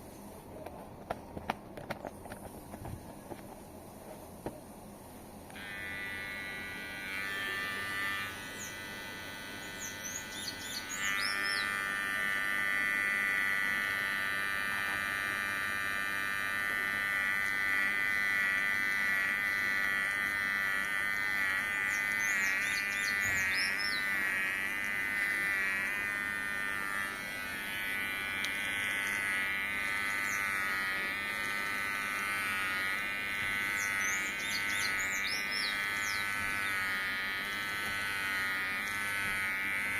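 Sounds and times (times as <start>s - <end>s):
electric hair clipper buzzing: 1.1s - 39.9s.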